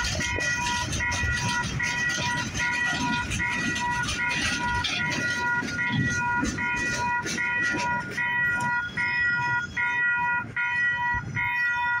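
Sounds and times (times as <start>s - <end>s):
railroad crossing bell ringing: 0.0s - 12.0s
train wheels clattering on rails: 0.0s - 12.0s.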